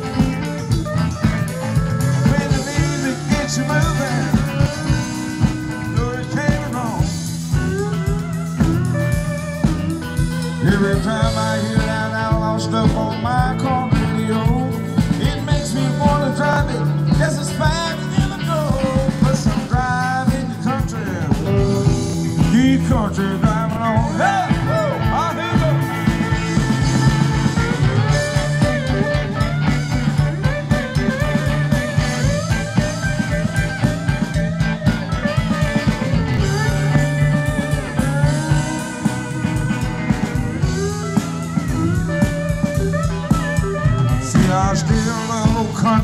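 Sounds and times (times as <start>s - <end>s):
electric guitar lead: 0.0s - 46.0s
steady drum beat: 0.0s - 46.0s.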